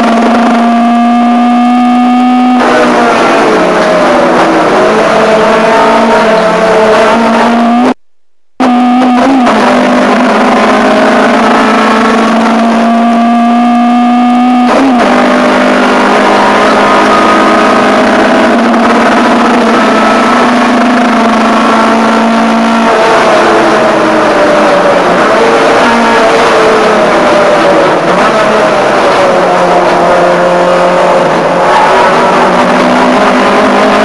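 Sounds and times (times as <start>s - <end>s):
race car engine at high revs: 0.0s - 34.0s.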